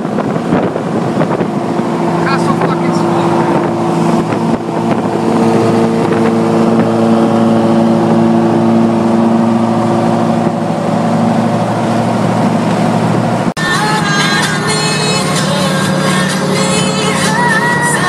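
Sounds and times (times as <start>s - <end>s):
car engine droning: 0.0s - 18.0s
road and wind noise: 0.0s - 18.0s.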